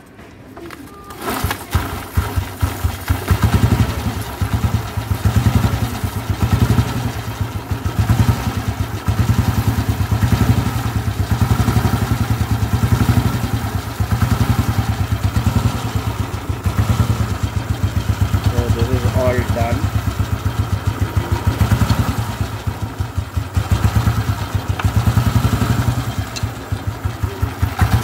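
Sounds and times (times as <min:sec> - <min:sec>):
motorcycle engine revving: 0:01.2 - 0:28.0.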